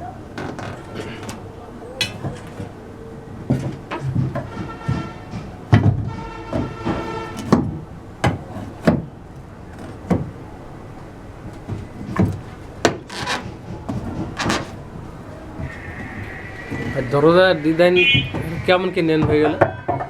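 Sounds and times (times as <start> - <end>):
wood knocking and scraping: 0.3 - 2.8, 3.4 - 17.1.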